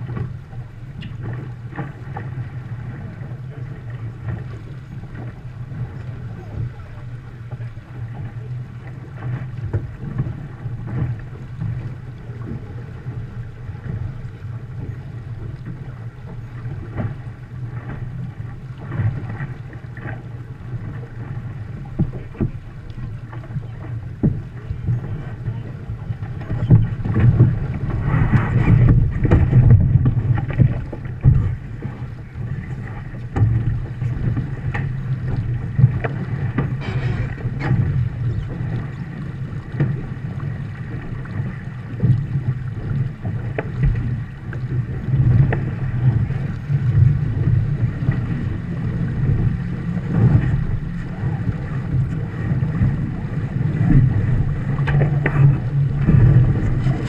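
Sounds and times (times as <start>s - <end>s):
water rushing along hull: 0.0s - 57.0s
wind buffeting microphone: 0.0s - 57.0s.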